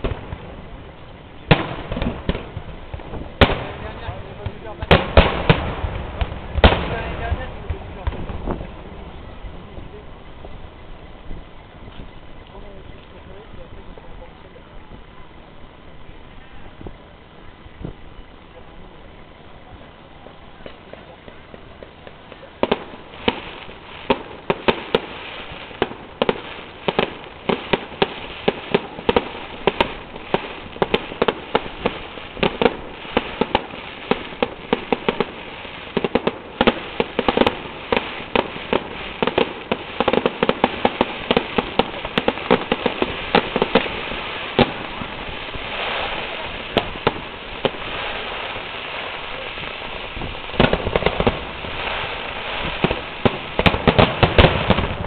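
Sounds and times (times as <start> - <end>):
fireworks bangs: 0.0 - 15.1, 20.6 - 55.0
fireworks crackling: 0.0 - 55.0.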